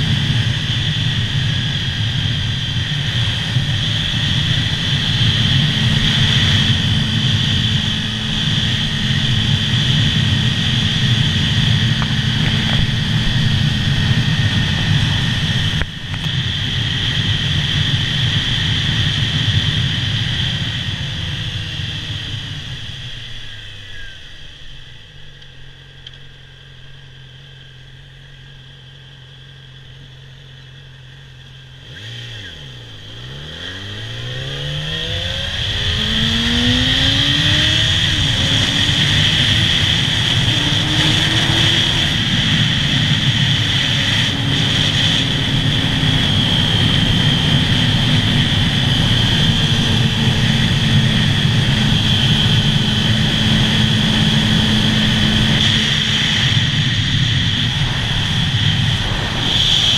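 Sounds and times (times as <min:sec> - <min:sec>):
wind noise on helmet: 0:00.0 - 0:23.8, 0:35.0 - 0:59.9
motorcycle engine running: 0:00.0 - 0:59.9.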